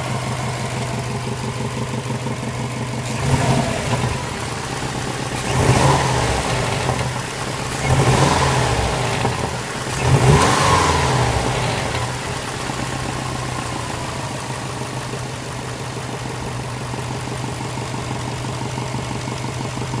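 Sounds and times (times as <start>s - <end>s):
car engine revving and idling: 0.0s - 20.0s
engine knock: 0.0s - 20.0s.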